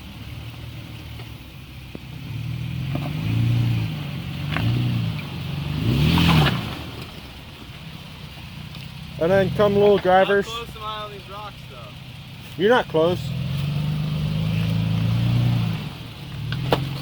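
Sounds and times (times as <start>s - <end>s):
pickup engine revving: 0.0s - 17.0s.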